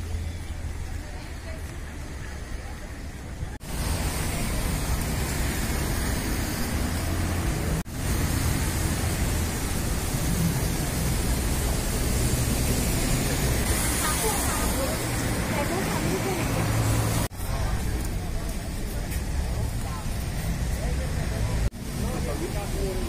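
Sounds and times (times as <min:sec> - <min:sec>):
city street hiss: 0:00.0 - 0:23.0
low traffic rumble: 0:00.0 - 0:23.0.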